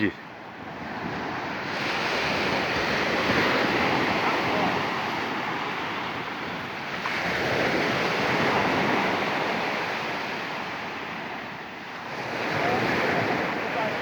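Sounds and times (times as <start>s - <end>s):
sea waves washing on shore: 0.0s - 14.0s.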